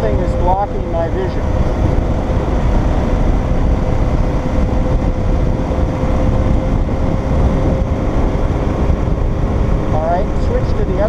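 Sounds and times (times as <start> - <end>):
motorcycle engine: 0.0 - 11.0
wind rush: 0.0 - 11.0.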